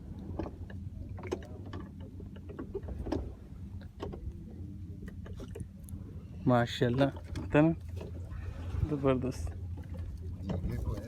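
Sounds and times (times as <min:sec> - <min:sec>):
boat engine low hum: 0:00.0 - 0:11.0.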